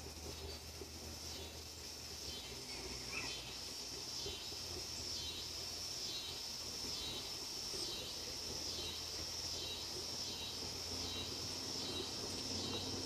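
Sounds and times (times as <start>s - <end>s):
high-pitched insect chorus pulsing: 0.0s - 13.0s.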